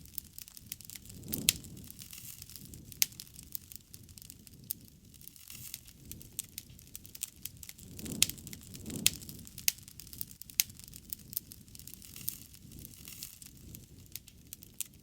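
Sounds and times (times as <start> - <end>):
wood snapping and popping: 0.0 - 4.4, 5.2 - 15.0
low rush of flames: 0.0 - 15.0.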